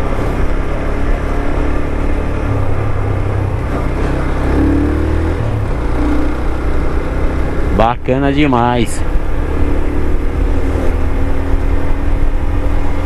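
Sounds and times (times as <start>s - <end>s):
motorcycle engine running: 0.0s - 13.0s
road noise rushing: 0.0s - 13.0s.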